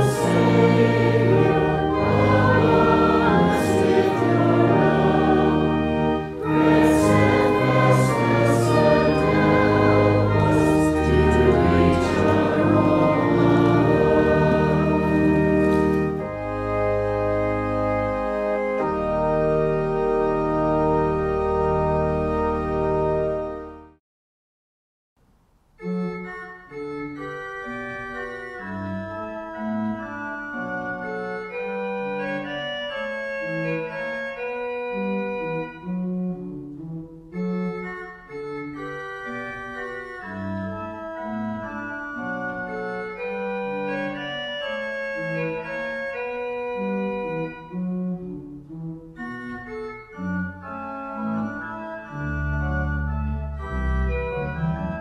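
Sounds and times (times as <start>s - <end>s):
organ playing held chords: 0.0s - 24.0s, 25.8s - 55.0s.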